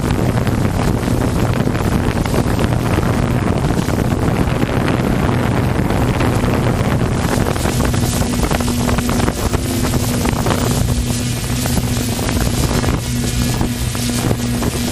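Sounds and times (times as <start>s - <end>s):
jet ski engines droning: 0.0s - 14.9s
wind buffeting microphone: 0.0s - 14.9s.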